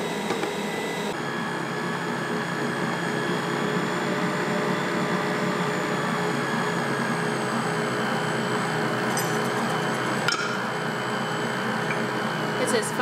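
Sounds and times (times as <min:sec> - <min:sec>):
electric stand mixer motor humming: 0:00.0 - 0:13.0.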